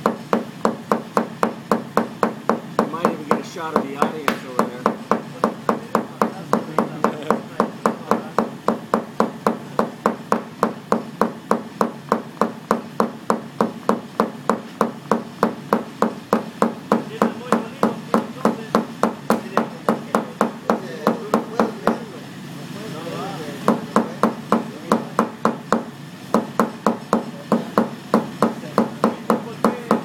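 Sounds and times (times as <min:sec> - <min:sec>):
hammer tapping on sheet metal: 0:00.0 - 0:22.2, 0:23.6 - 0:30.0.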